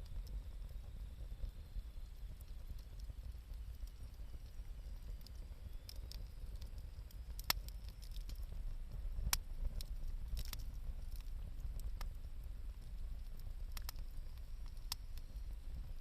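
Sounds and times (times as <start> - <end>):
campfire crackling: 0.0 - 16.0
fire low rumble: 0.0 - 16.0
fire pops: 0.0 - 16.0.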